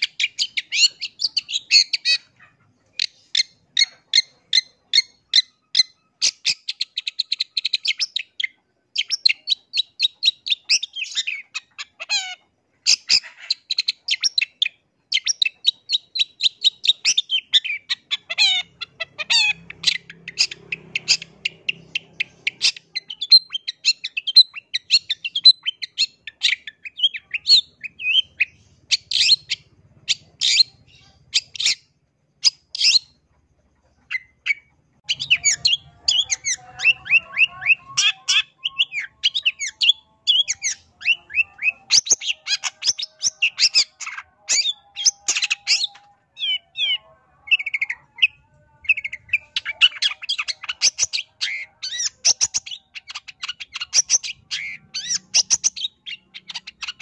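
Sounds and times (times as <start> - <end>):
bird singing trills: 0.0 - 57.0.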